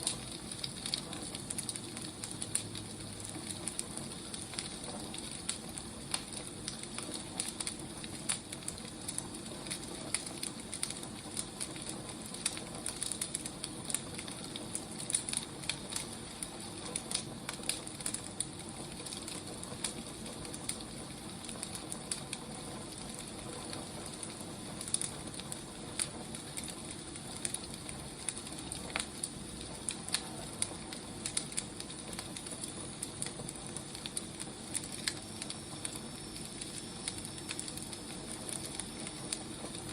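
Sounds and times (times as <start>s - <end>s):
fire crackling and popping: 0.0s - 39.9s
firewood hissing: 0.0s - 39.9s.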